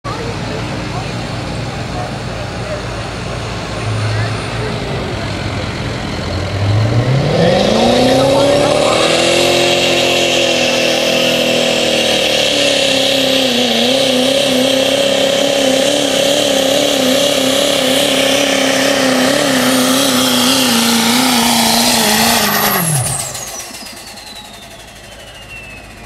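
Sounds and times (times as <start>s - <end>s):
diesel engine at full throttle: 0.0s - 26.0s
turbo whine: 2.0s - 26.0s.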